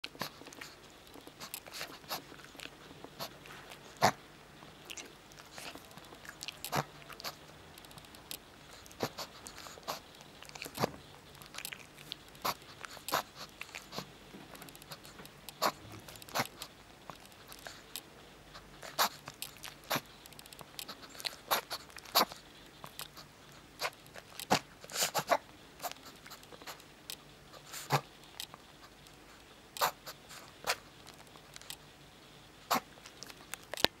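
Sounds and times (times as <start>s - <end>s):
dog snorting: 0.1s - 4.2s, 4.8s - 7.5s, 8.6s - 14.1s, 14.8s - 26.8s, 27.5s - 28.2s, 29.8s - 31.8s, 32.7s - 33.5s.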